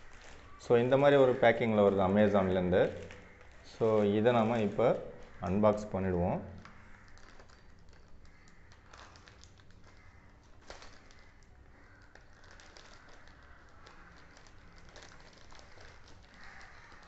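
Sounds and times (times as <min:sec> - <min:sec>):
plastic crinkling: 0:00.0 - 0:17.0.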